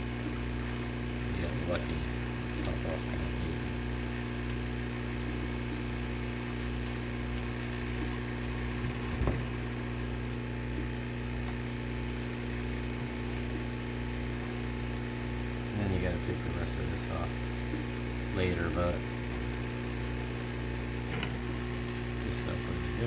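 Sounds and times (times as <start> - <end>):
heat gun humming and blowing: 0.0 - 23.0.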